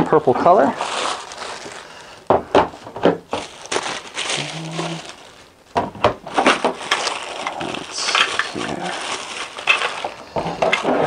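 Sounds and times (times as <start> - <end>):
plastic bag crinkling: 0.1 - 11.0.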